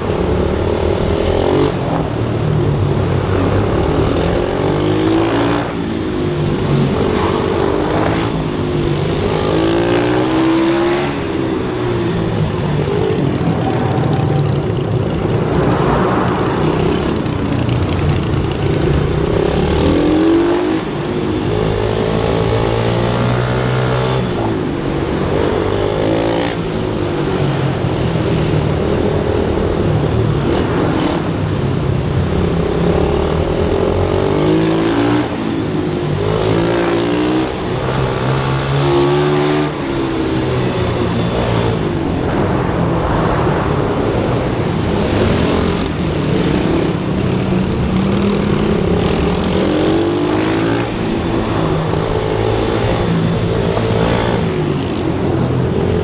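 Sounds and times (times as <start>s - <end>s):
pit bike engines revving: 0.0s - 56.0s.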